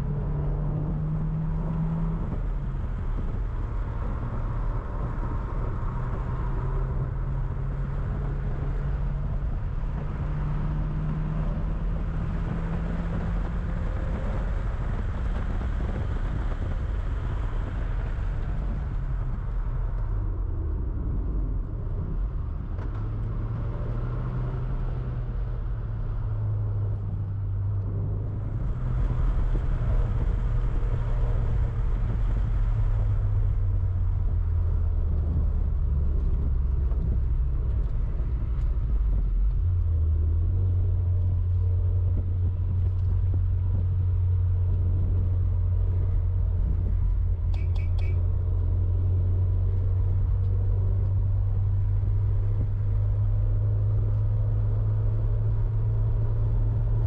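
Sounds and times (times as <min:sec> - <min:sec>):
car engine at speed: 0:00.0 - 0:57.0
road and tyre noise: 0:00.0 - 0:57.0.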